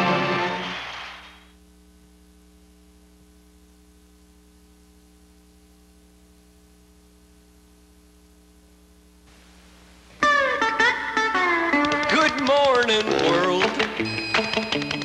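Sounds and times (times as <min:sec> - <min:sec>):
faint mains hum: 0:00.0 - 0:15.0
tape hiss: 0:00.0 - 0:15.0.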